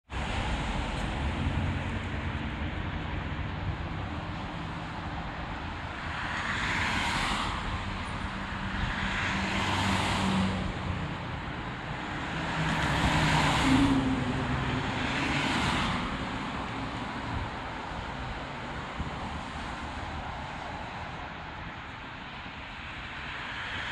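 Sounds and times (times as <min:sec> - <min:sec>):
cars passing: 0:00.1 - 0:23.9
low traffic rumble: 0:00.1 - 0:23.9.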